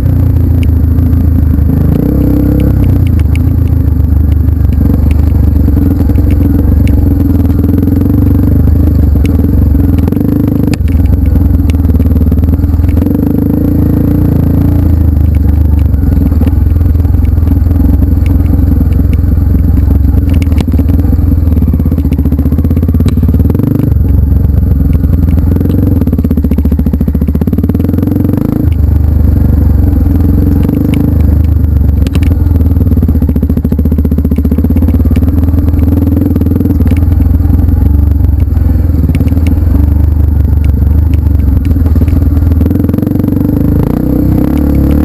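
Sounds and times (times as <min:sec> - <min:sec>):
motorcycle engine drone: 0:00.0 - 0:45.0.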